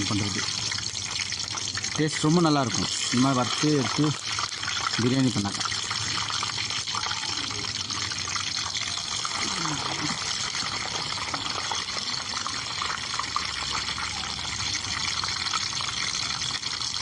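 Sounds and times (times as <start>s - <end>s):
eggplant frying in hot oil: 0.0s - 17.0s.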